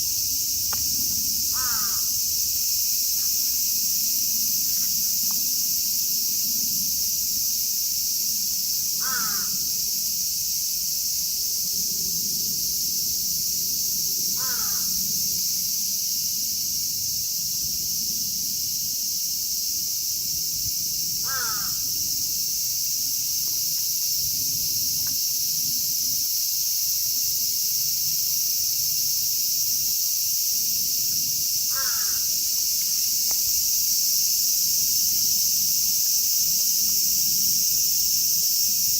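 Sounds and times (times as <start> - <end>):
cicadas chorus: 0.0 - 38.9.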